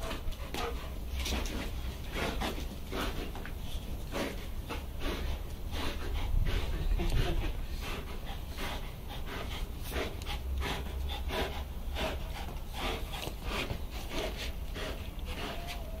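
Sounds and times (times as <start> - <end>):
dogs breathing in bursts: 0.0 - 16.0.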